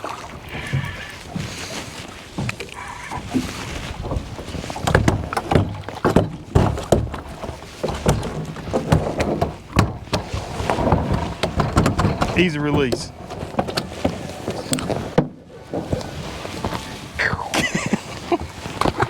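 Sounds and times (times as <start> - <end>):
knocks and thumps on a boat: 0.0 - 19.0
rough background noise: 0.4 - 19.0.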